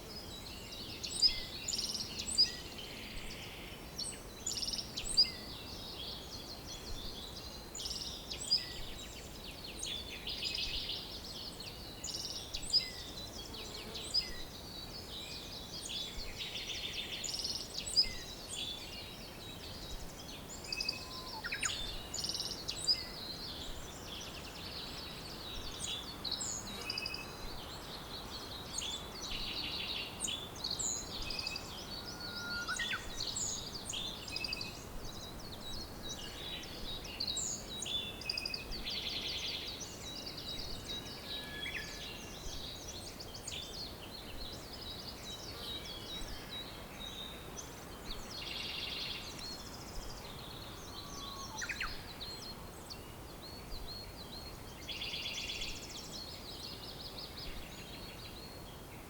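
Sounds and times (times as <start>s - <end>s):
soft steady hiss: 0.0s - 59.0s
songbirds singing and chirping: 0.0s - 59.0s.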